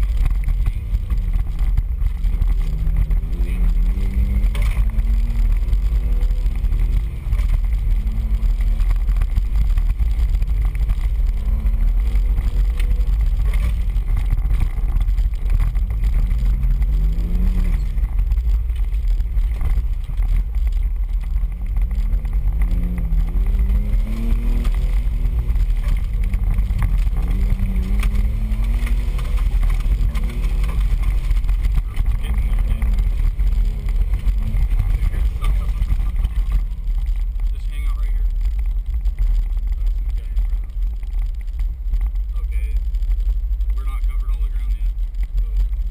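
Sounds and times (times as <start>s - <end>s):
off-road vehicle engine revving: 0.0s - 45.9s
tyres rumbling on rough trail: 0.0s - 45.9s.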